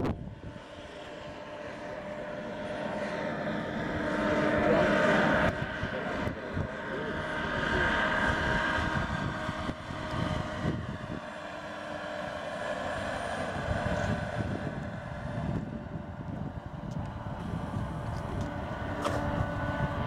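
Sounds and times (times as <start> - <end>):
gas turbine engine whine: 0.0 - 20.0
helicopter rotor noise: 0.0 - 20.0.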